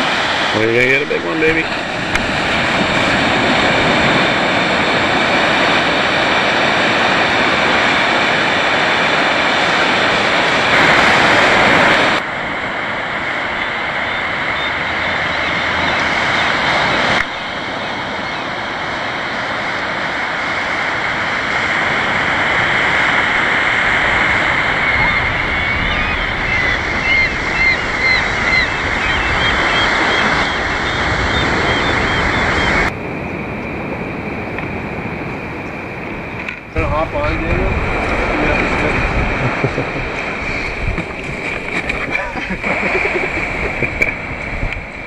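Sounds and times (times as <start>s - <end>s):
water rushing around kayak: 0.0s - 45.0s
wind on microphone: 0.0s - 45.0s.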